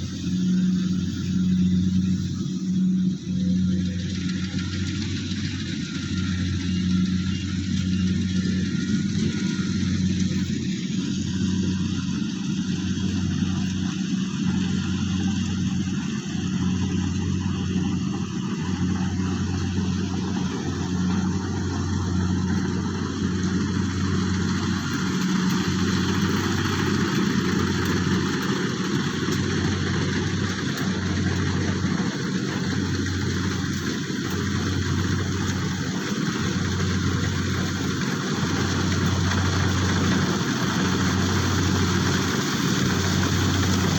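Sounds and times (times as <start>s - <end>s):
harvesting machine engine running: 0.0s - 43.9s.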